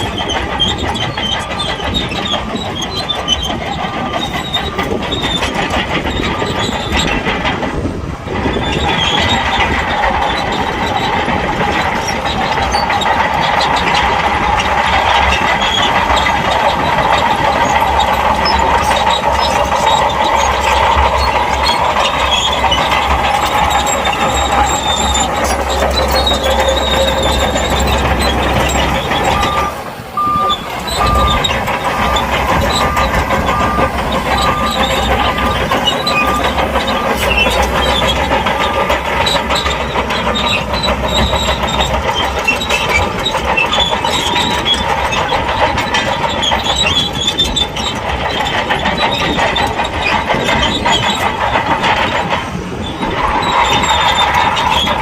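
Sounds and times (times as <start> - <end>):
bulldozer engine and tracks: 0.0 - 55.0.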